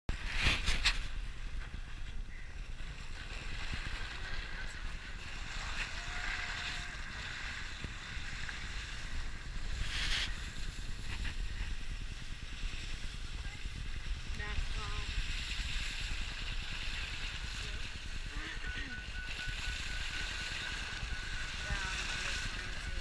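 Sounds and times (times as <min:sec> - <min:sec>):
wind noise on microphone: 0:00.1 - 0:23.0.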